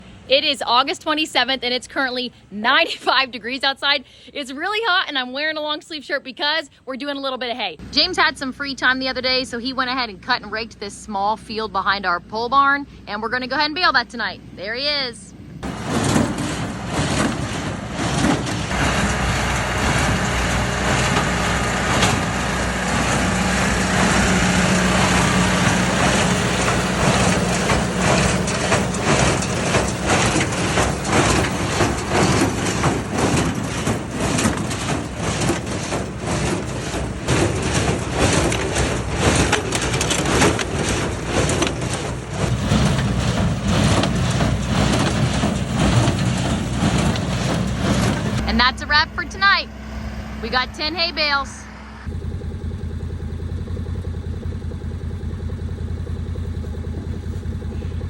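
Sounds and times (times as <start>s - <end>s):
tractor running under load: 0.0s - 58.0s
hay baler knocking and rattling: 7.8s - 58.0s.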